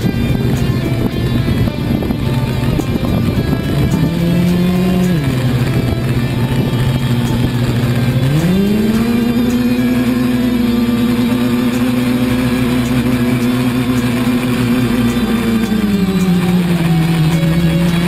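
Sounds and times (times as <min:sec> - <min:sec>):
quadcopter propellers whining: 0:00.0 - 0:18.0.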